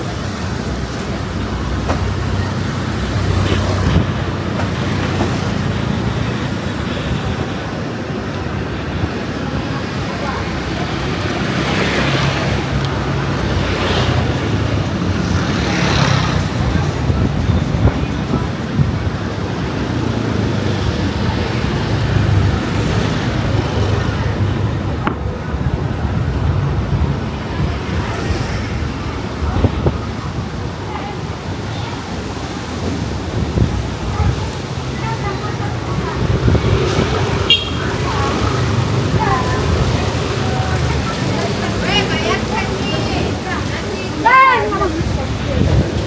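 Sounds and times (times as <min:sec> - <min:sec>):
passing vehicle engine hum: 0:00.0 - 0:46.0
wind rushing over microphone: 0:00.0 - 0:46.0.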